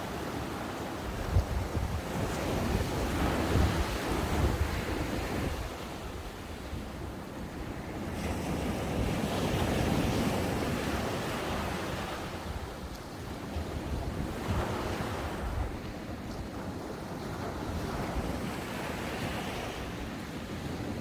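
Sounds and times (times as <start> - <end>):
ocean waves breaking on beach: 0.0 - 21.0
wind buffeting microphone: 0.0 - 21.0.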